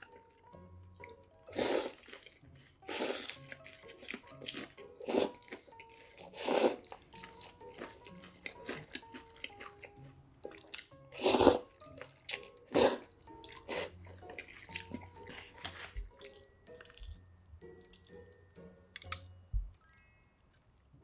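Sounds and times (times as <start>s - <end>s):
faint background music: 0.0s - 21.0s.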